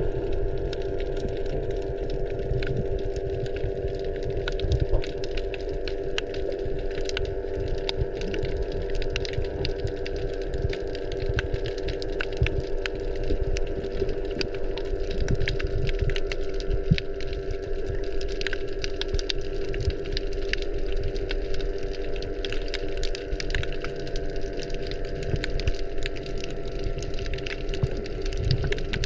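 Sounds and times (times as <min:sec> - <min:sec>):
underwater engine drone: 0:00.0 - 0:29.0
sharp underwater clicks: 0:00.6 - 0:29.0.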